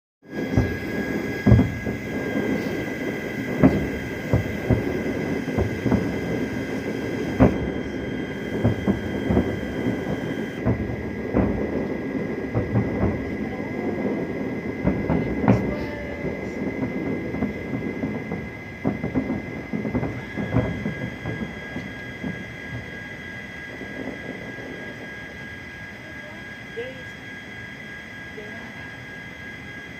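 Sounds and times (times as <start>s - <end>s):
distant fireworks booming: 0.2s - 29.9s
faint high-pitched whine: 0.3s - 29.9s.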